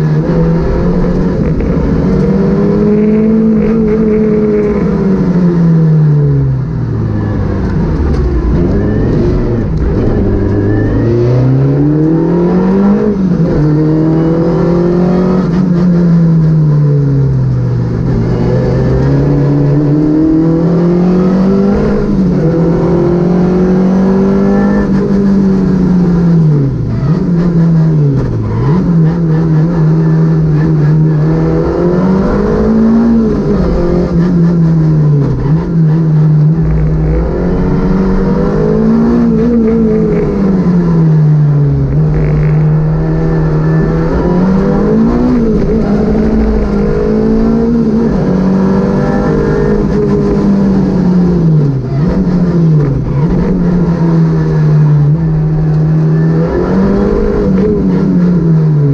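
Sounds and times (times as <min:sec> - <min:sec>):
car engine revving at speed: 0:00.0 - 0:58.9.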